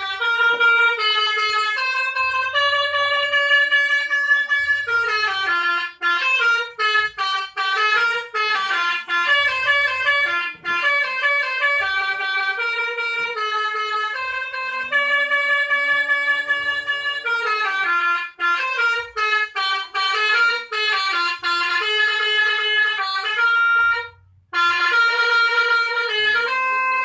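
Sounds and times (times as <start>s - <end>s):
bus horn playing melody: 0.0s - 27.0s.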